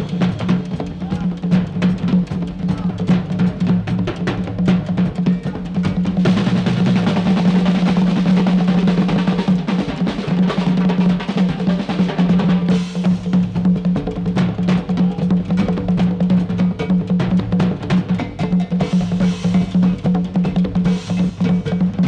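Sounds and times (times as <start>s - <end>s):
drum rolls and cymbals: 0.0s - 22.0s.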